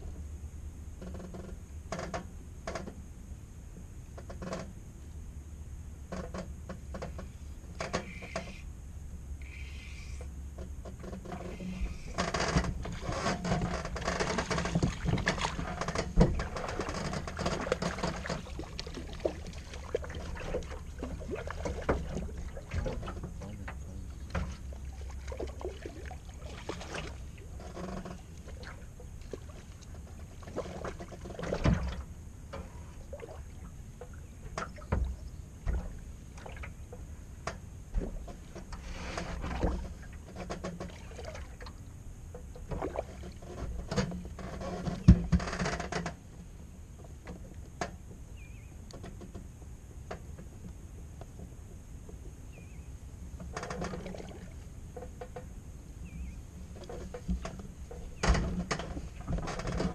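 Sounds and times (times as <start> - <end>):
low steady rumble: 0.0 - 59.9
knocks and clicks of boat gear: 1.0 - 3.0, 3.8 - 4.8, 6.1 - 8.6, 10.2 - 33.2, 34.0 - 59.9.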